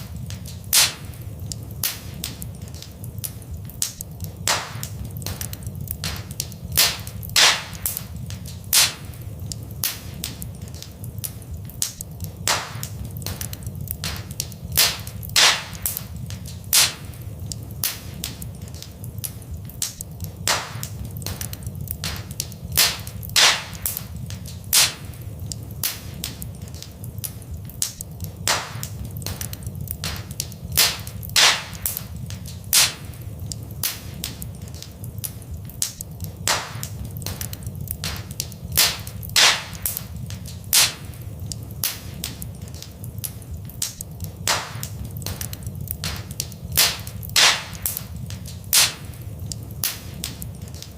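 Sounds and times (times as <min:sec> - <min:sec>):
fire crackling and popping: 0:00.0 - 0:50.9.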